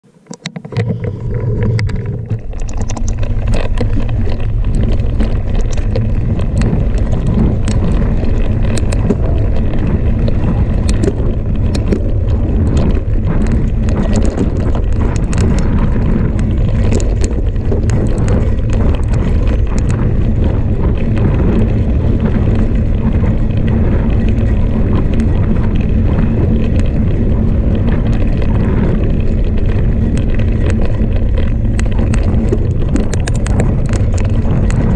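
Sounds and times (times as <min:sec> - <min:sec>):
bike clicking and rattling: 0:00.0 - 0:34.9
tyres rolling over loose stones: 0:00.4 - 0:34.9
wind buffeting microphone: 0:00.7 - 0:34.9.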